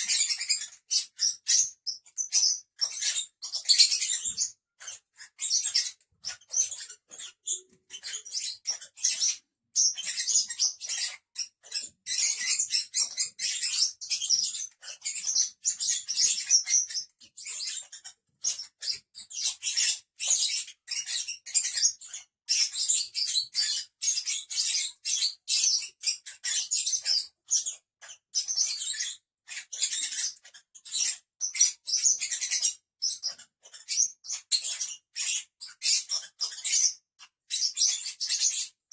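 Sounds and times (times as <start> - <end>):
lovebirds chirping: 0.0 - 38.8.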